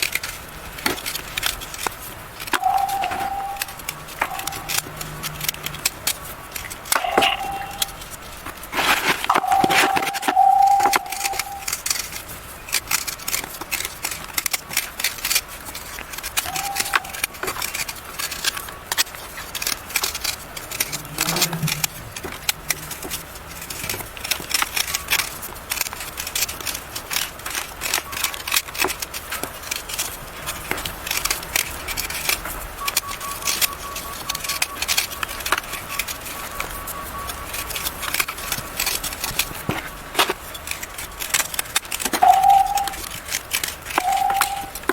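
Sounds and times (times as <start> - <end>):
chalk crunching and crackling: 0.0 - 44.9.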